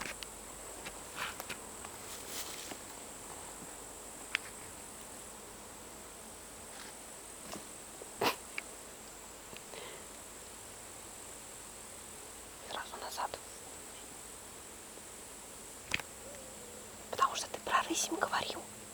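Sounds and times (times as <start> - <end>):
insects chirring in grass: 0.0 - 18.9.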